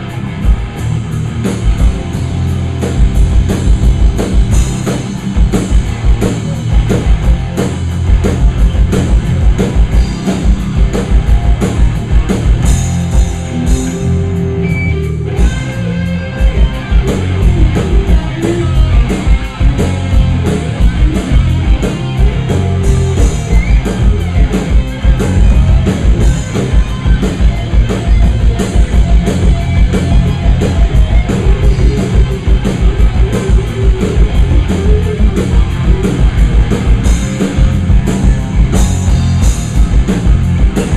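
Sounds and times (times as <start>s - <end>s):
fast driving drums: 0.0s - 40.9s
heavy rock band playing: 0.0s - 40.9s.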